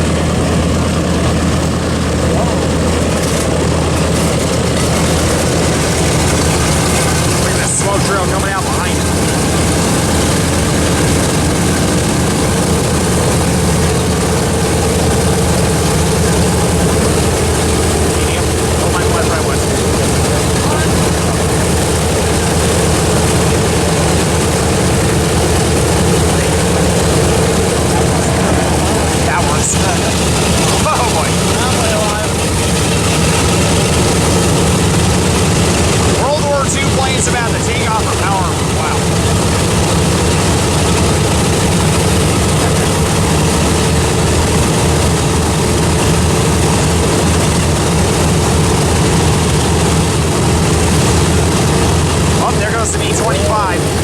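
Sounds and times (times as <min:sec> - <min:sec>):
piston engines idling: 0:00.0 - 0:54.0.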